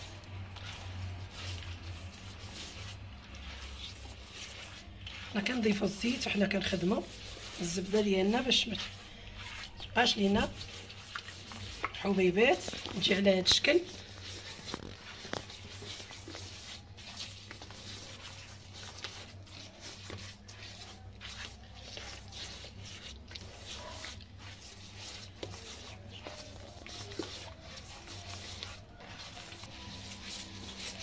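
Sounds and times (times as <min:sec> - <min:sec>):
hand squishing paste in bowl: 0:00.0 - 0:31.0.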